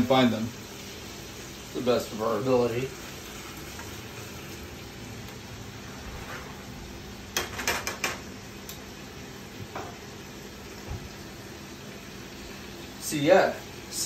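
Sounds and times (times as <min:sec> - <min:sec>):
chicken frying in skillet: 0:00.0 - 0:14.0.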